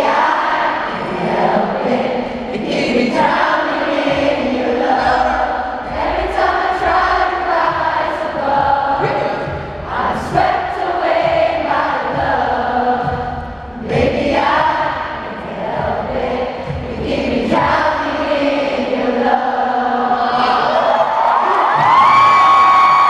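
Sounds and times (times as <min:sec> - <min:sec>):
crowd singing along: 0:00.0 - 0:21.9.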